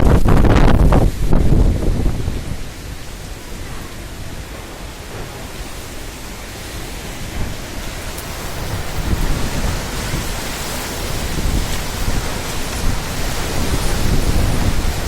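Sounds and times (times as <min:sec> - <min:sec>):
heavy rain hiss: 0:00.0 - 0:15.0
low rumbling wind surges: 0:00.0 - 0:15.0.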